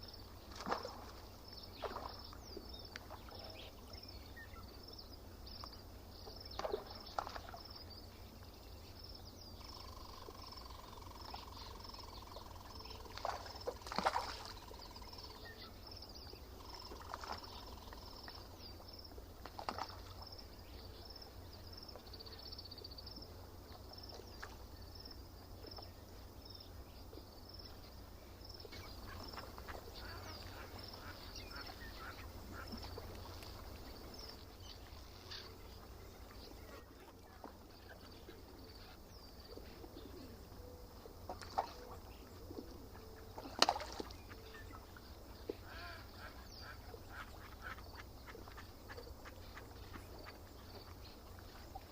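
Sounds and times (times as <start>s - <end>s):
low background hum: 0.0s - 51.9s.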